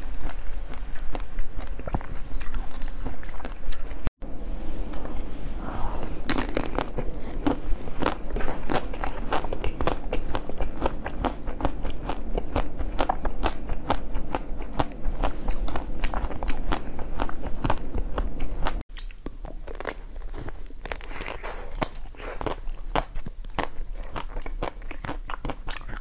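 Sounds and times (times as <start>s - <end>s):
chewing jelly sweet: 0.0s - 4.1s, 5.9s - 26.0s.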